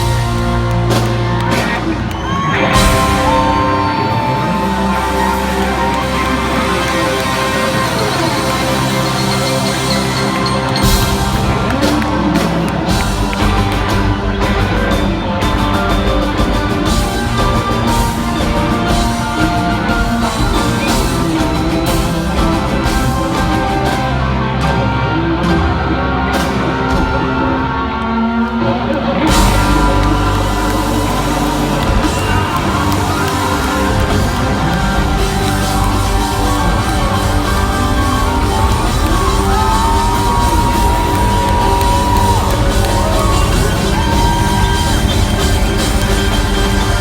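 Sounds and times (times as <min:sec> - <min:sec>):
driving drum beat: 0:00.0 - 0:25.8, 0:29.3 - 0:47.0
bass guitar: 0:00.0 - 0:47.0
distorted electric guitars: 0:00.0 - 0:47.0.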